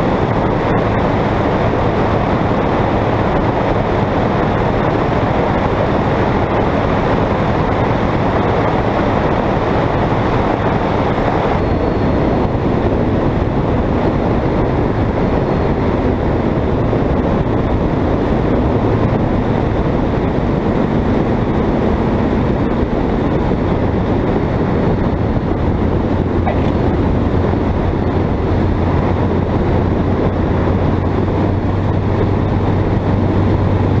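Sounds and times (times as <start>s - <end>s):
aircraft engine and propeller: 0.0s - 34.0s
airflow rushing over microphone: 0.0s - 34.0s
low hum: 0.0s - 34.0s.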